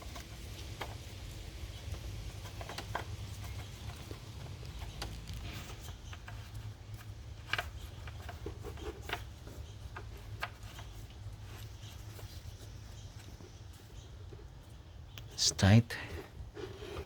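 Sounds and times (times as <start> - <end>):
light clicks and rubbing: 0.0 - 15.4.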